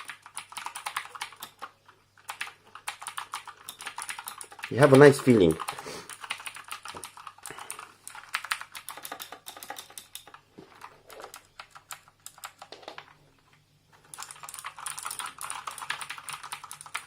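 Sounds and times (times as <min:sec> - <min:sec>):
mechanical keyboard typing: 0:00.0 - 0:13.2, 0:14.0 - 0:17.0.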